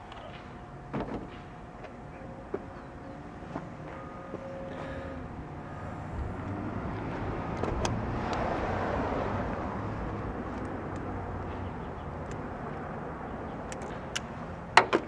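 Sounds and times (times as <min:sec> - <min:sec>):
road vehicle passing by: 0:01.9 - 0:14.8.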